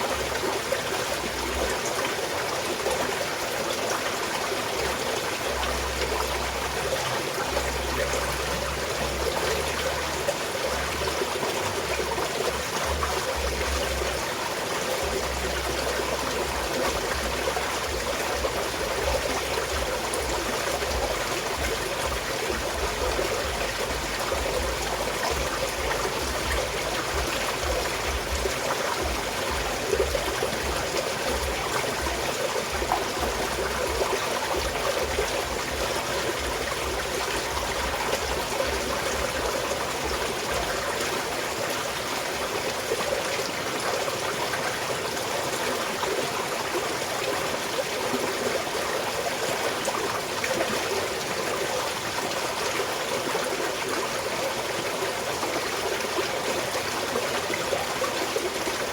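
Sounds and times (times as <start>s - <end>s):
stream trickling over rocks: 0.0s - 58.9s.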